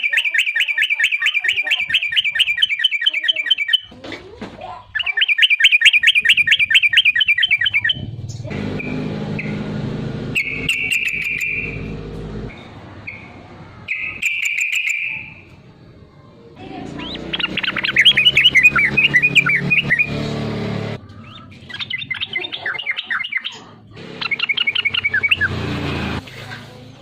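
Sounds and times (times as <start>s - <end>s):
bird singing chattering notes: 0.0s - 4.0s, 4.8s - 15.6s, 16.7s - 26.2s.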